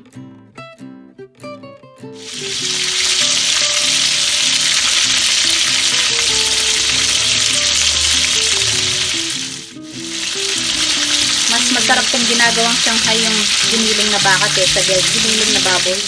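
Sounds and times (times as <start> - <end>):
background music: 1.8 - 16.0
spring rolls sizzling in hot oil: 2.2 - 16.0.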